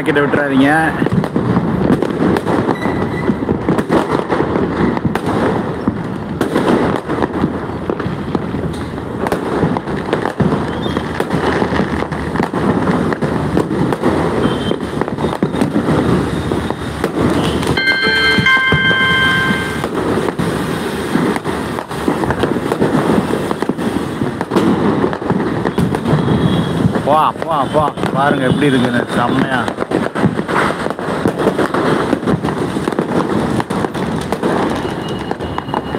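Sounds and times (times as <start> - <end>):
fireworks and firecrackers bangs: 0.0 - 35.9.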